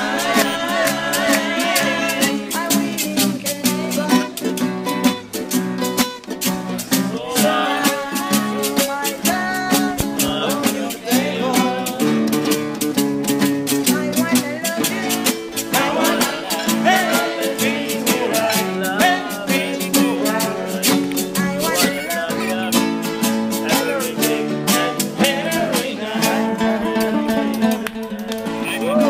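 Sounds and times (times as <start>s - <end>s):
person singing: 0.0s - 5.0s, 7.1s - 12.6s, 13.7s - 29.0s
steady beat: 0.0s - 29.0s
strummed acoustic guitar: 0.0s - 29.0s.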